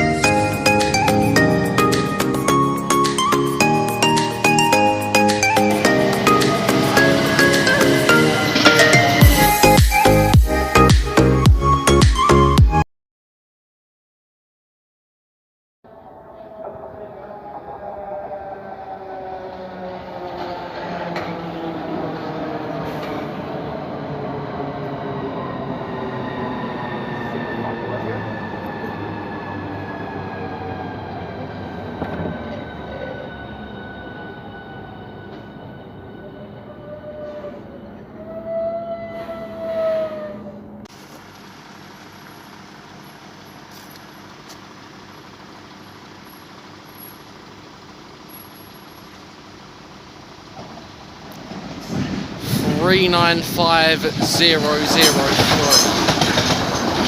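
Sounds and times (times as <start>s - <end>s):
electric train running on rails: 0.0s - 10.8s, 15.9s - 57.0s
vehicle engines idling: 0.0s - 11.4s, 16.0s - 33.6s, 40.3s - 57.0s
train whine: 0.0s - 11.8s, 15.9s - 57.0s.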